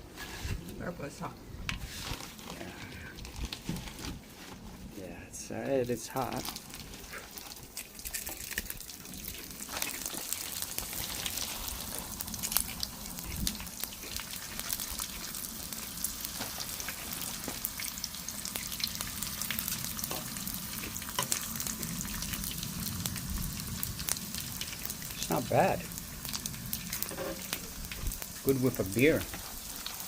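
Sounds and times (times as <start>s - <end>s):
fish sizzling in hot oil: 5.5s - 30.0s.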